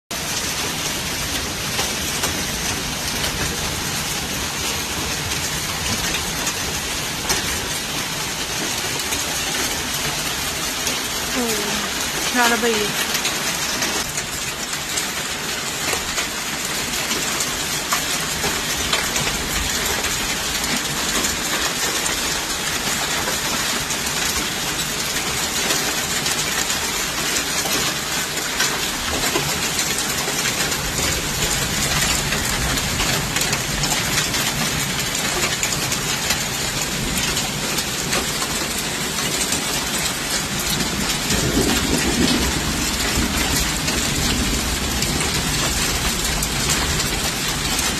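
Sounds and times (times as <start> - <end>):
heavy hail clattering: 0.2 - 47.9.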